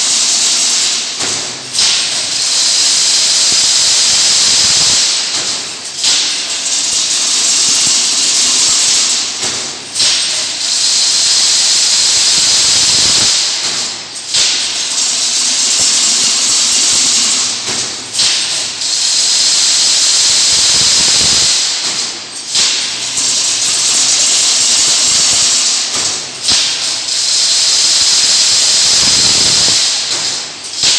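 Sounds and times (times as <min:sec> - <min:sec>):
fence weaving machine hissing: 0:00.0 - 0:30.9.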